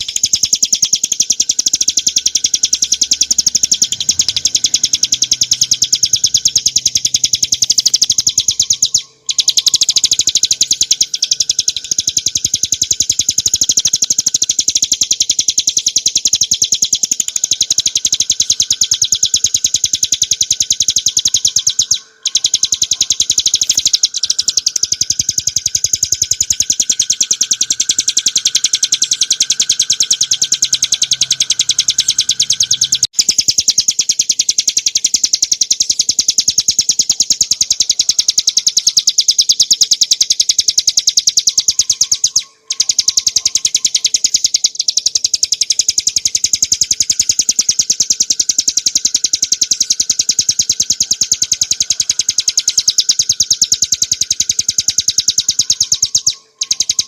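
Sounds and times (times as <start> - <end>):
bird singing rapid trill: 0.0 - 57.0.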